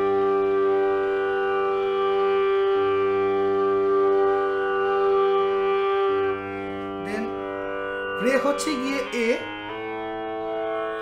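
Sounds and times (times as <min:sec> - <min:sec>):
bass flute holding a note: 0:00.0 - 0:09.8
tanpura drone: 0:00.0 - 0:11.0.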